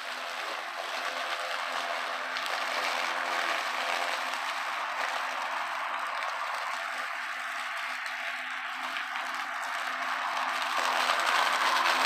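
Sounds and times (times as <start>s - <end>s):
electric lawn mower whirring: 0.0s - 12.0s.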